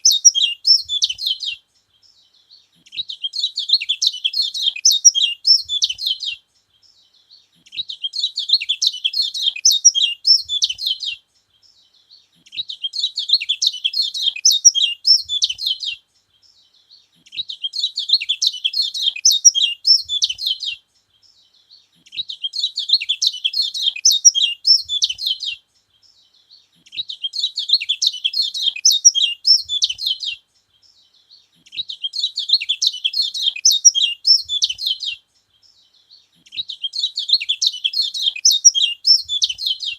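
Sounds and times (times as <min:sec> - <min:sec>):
bird twittering: 0:00.0 - 0:02.1, 0:02.8 - 0:06.9, 0:07.6 - 0:11.7, 0:12.3 - 0:16.5, 0:17.2 - 0:21.3, 0:22.0 - 0:39.9.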